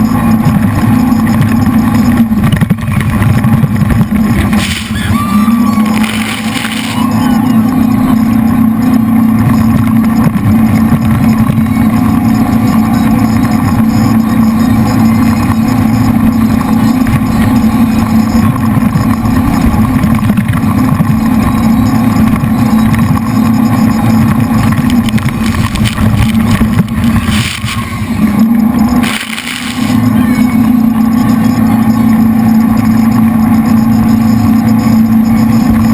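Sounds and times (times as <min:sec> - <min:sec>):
boat engines droning: 0:00.0 - 0:35.9.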